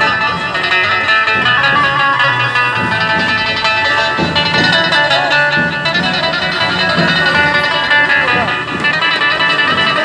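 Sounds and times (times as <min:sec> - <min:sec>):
loud band music: 0:00.0 - 0:10.0.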